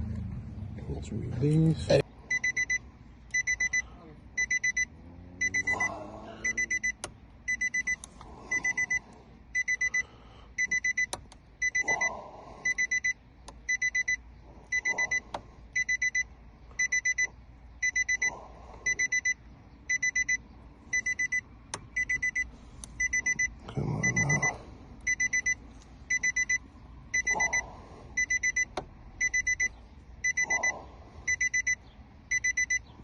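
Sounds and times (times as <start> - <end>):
electronic warning beeper: 2.3 - 9.0, 9.6 - 32.9.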